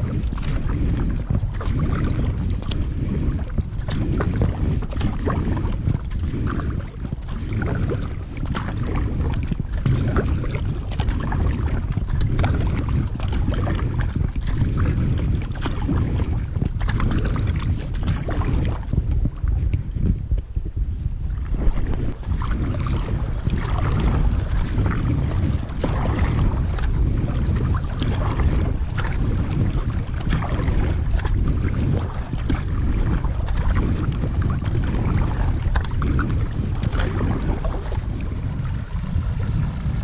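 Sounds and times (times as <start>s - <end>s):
water splashing around kayak: 0.0s - 40.0s
wind buffeting microphone: 0.0s - 40.0s.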